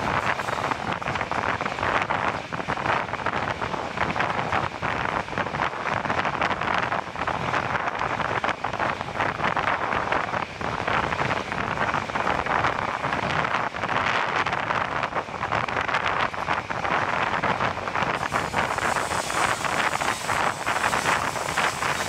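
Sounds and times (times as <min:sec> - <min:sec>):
train running noise: 0:00.0 - 0:22.0
wind buffeting microphone: 0:00.0 - 0:22.0.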